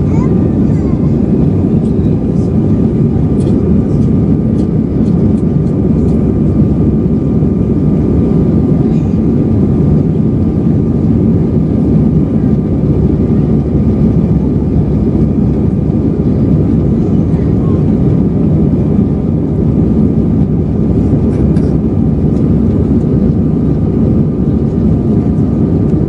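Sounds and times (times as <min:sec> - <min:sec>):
jet engine cabin rumble: 0:00.0 - 0:26.0
thin steady whine: 0:00.0 - 0:26.0.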